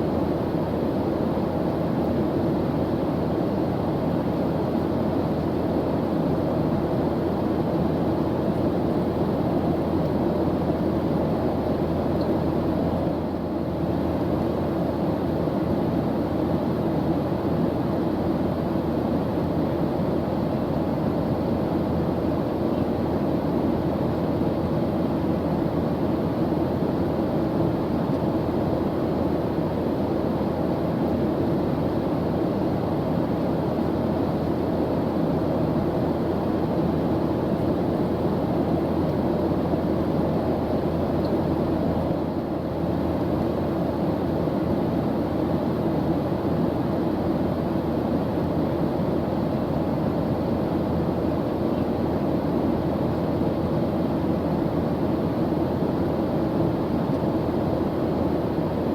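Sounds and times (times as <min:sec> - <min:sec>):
airplane engine drone: 0:00.0 - 0:58.9.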